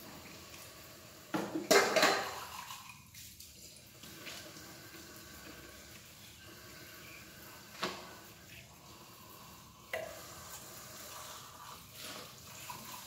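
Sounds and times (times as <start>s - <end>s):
water and dishes clattering: 0.0s - 13.0s
water rinsing and dripping: 0.0s - 13.0s.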